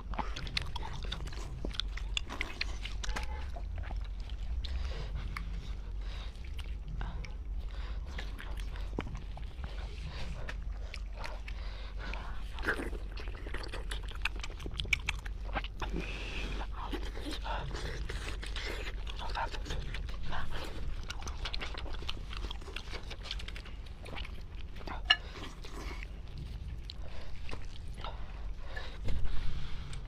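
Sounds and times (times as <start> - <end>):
close chewing and mouth smacks: 0.0 - 30.0
steady low hum: 0.0 - 30.0.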